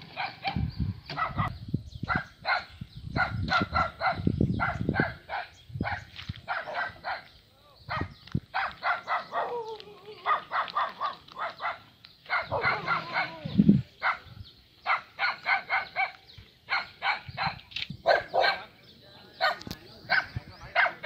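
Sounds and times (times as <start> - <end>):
dog barking: 1.2 - 7.3, 7.9 - 18.7, 19.4 - 21.0.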